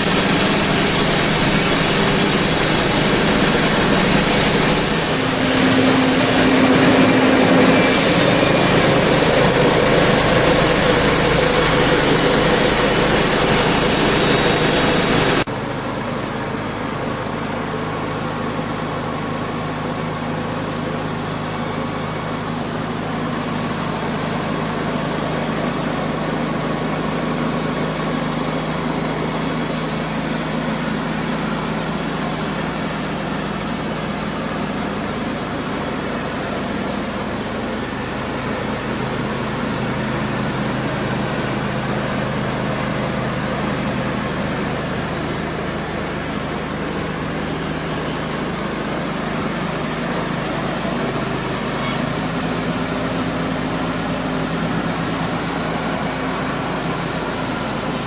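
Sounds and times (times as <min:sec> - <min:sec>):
engine running steadily: 0:00.0 - 0:58.0
harsh mechanical noise: 0:00.0 - 0:58.0.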